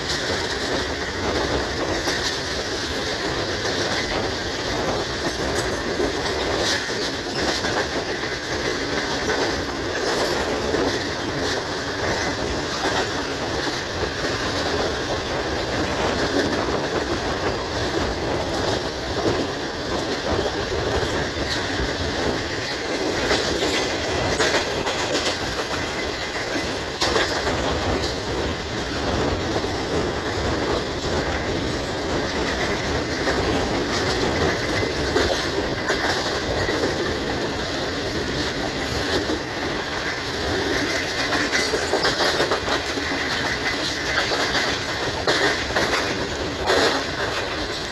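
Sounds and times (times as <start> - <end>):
train wheels on rails: 0.0 - 47.9.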